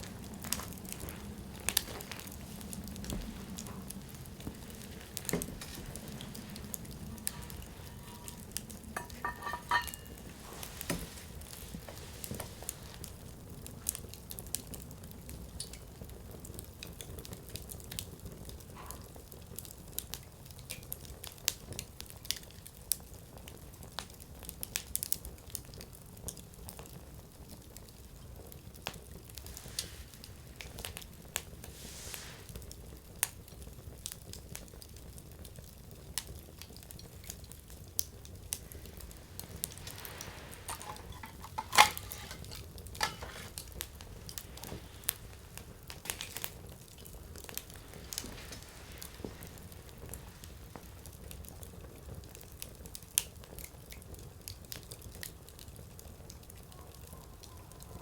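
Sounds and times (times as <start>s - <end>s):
hiss of flames: 0.0s - 20.6s, 26.5s - 54.2s
wood crackling and popping: 0.0s - 57.9s.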